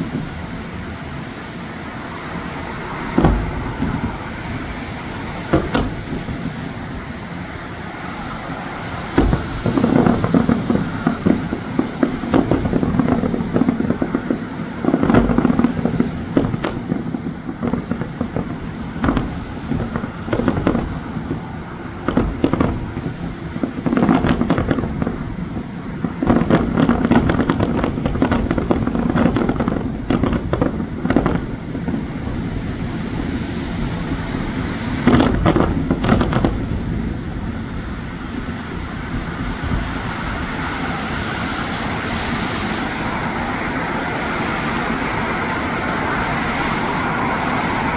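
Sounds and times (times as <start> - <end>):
fireworks bangs and bursts: 0.0 - 1.0, 3.1 - 7.6, 8.9 - 42.8
steady background noise: 0.0 - 47.9.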